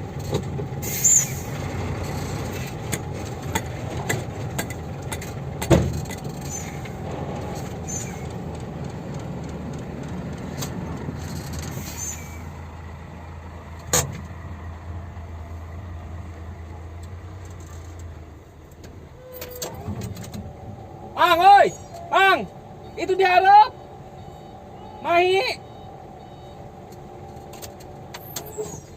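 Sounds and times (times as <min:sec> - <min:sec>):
diesel truck engine droning: 0:00.0 - 0:28.9.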